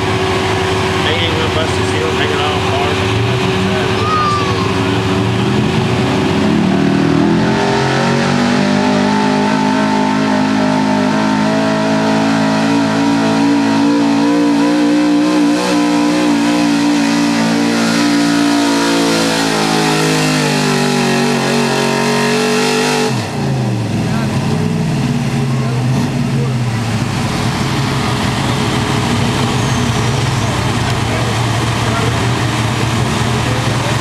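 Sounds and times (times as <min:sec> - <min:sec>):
truck engine revving at full throttle: 0:00.0 - 0:34.0.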